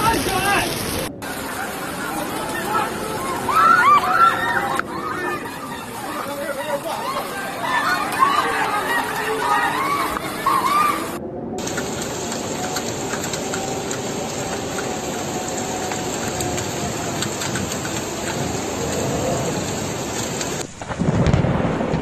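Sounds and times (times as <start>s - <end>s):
flood water rushing: 0.0s - 22.0s
rain: 0.0s - 22.0s
thunder rumble: 0.0s - 22.0s.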